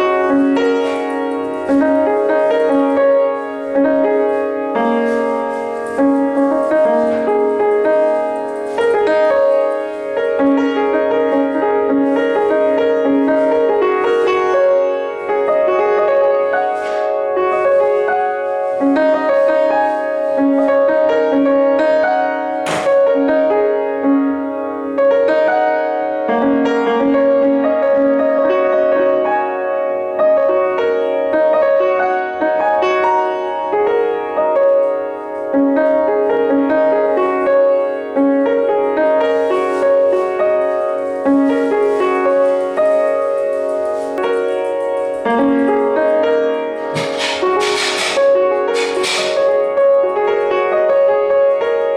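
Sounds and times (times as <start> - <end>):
slow piano chords: 0.0 - 51.9.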